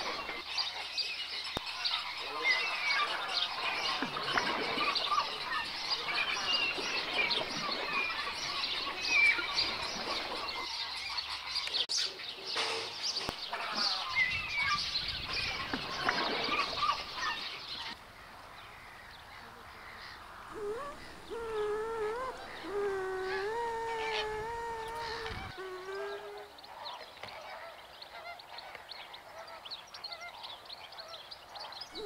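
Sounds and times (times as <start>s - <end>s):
chorus of bird chirps: 0.0s - 32.0s.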